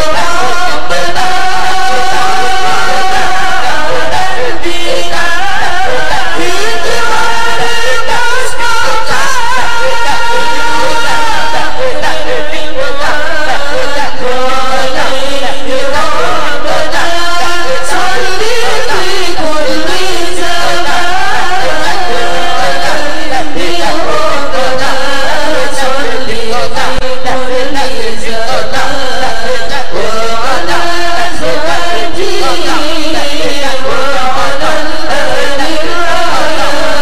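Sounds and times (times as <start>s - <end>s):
voices chanting devotional melody: 0.0s - 37.0s.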